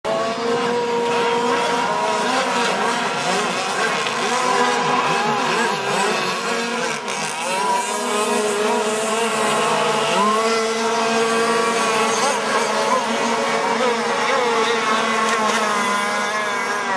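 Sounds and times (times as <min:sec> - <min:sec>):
model boat engines whining: 0:00.1 - 0:16.9.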